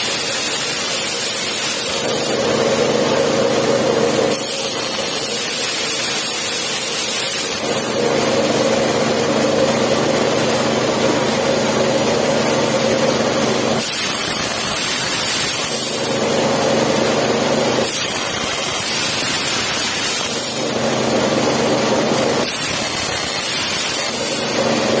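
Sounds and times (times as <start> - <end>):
plasma cutter hissing: 0.0 - 12.4, 13.6 - 25.0
buzzing tone: 0.0 - 25.0.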